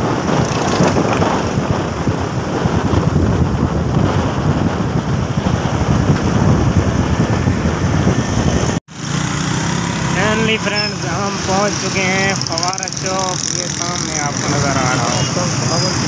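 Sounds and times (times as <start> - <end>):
vehicle engine and road noise: 0.0 - 16.0
wind buffeting microphone: 0.0 - 16.0.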